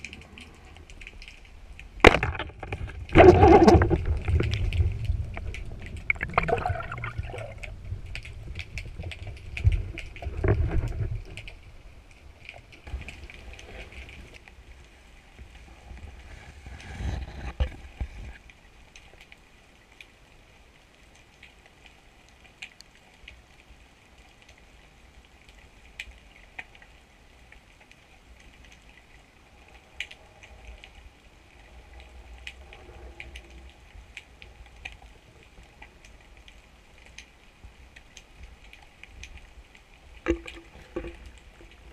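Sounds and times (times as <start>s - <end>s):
underwater rushing and bubbling: 0.0s - 19.9s, 24.8s - 41.9s
sharp underwater clicks and crackles: 0.0s - 20.2s, 20.9s - 41.9s.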